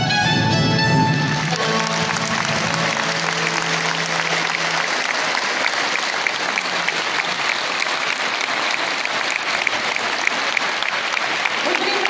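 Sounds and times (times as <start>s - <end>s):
audience applauding: 0.9s - 12.0s.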